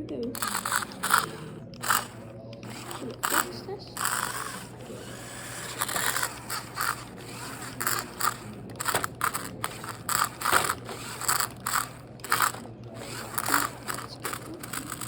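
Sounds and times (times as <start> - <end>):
toy car tyres scraping and crunching: 0.3 - 15.0.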